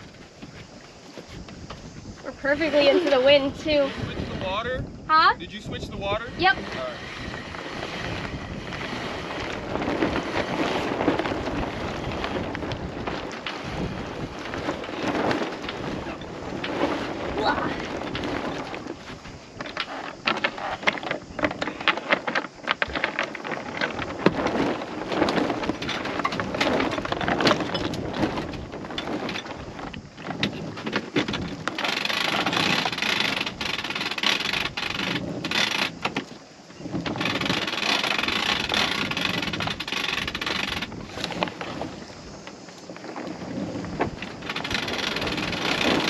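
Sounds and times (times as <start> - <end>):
sail flapping and clattering: 0.0 - 46.0
wind buffeting microphone: 0.0 - 46.0.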